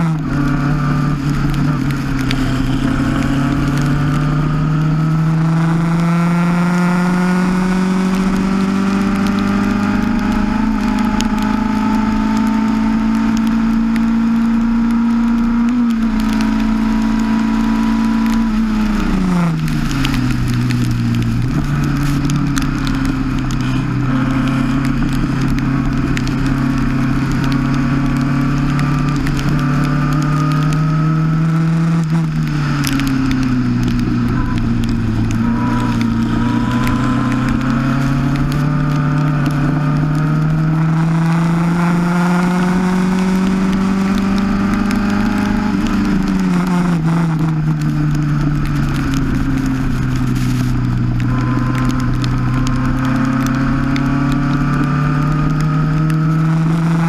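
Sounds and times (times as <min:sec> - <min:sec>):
race car engine under throttle: 0:00.0 - 0:57.0
hiss of tyre spray and rain: 0:00.2 - 0:57.0.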